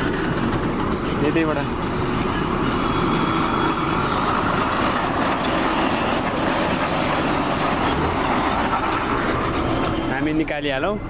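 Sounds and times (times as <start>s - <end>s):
truck engine running: 0.0s - 10.4s
truck rattling: 0.0s - 11.0s.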